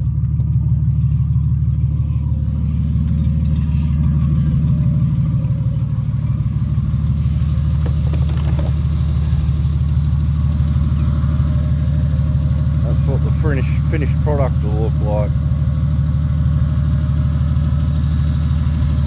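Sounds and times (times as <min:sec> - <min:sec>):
car engine idling without exhaust: 0:00.0 - 0:19.0.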